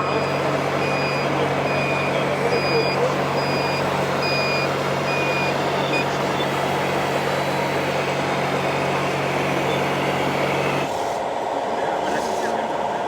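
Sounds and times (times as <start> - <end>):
reversing beeper: 0.0 - 10.9
diesel engine hum: 0.0 - 13.0.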